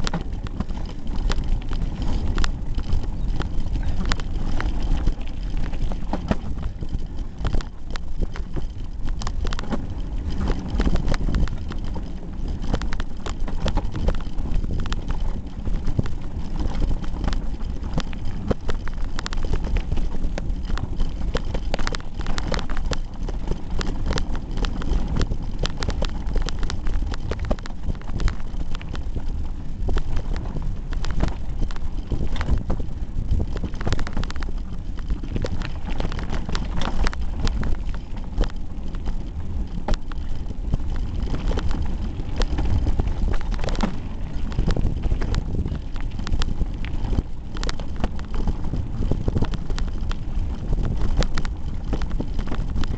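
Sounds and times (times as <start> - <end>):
bike frame rattling and knocking: 0.0 - 52.9
heavy low rumble: 0.0 - 52.9.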